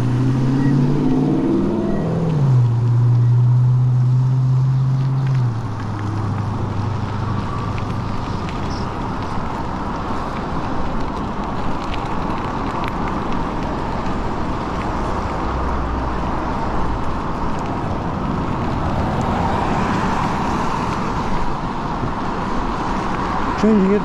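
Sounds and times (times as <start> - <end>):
road traffic: 0.0 - 24.0
tyres on wet pavement: 0.0 - 24.0
wind rush on microphone: 0.0 - 24.0.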